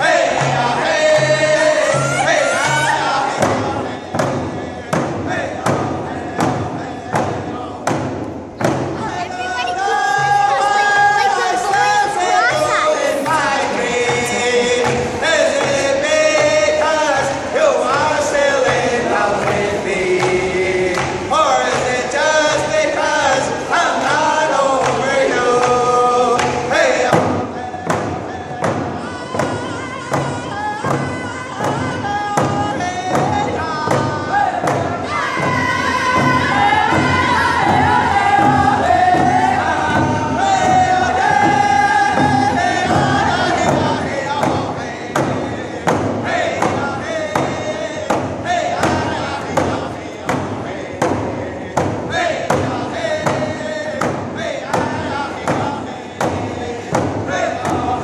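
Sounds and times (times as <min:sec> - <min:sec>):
hand drums beating: 0:00.0 - 0:58.0
men singing in unison: 0:00.0 - 0:58.0.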